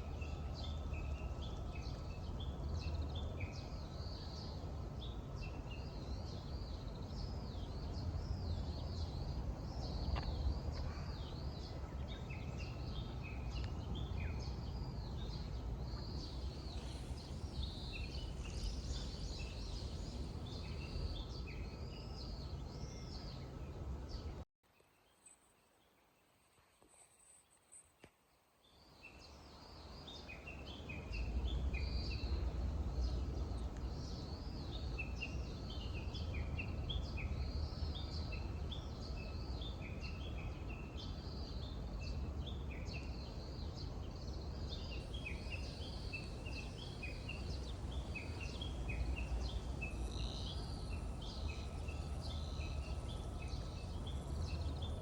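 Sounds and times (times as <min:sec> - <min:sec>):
small birds chirping: 0:00.0 - 0:24.4, 0:29.0 - 0:55.0.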